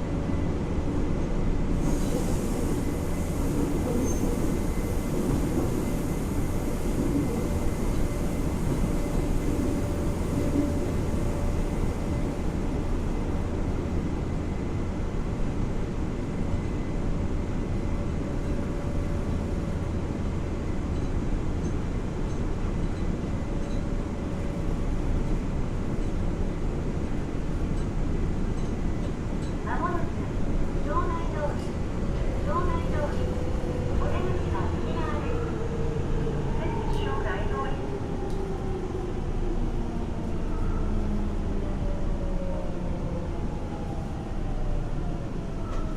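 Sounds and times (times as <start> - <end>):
subway car rumble: 0.0 - 45.9.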